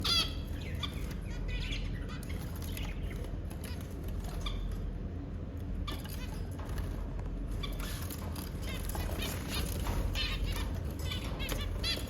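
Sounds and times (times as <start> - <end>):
small birds chirping and squawking: 0.0 - 5.1, 5.7 - 12.0
low background hum: 0.0 - 12.0.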